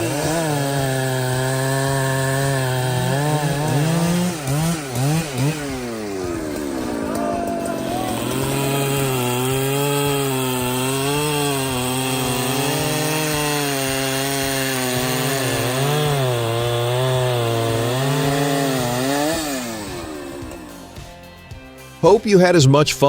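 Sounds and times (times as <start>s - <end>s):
chainsaw cutting wood: 0.0s - 21.7s.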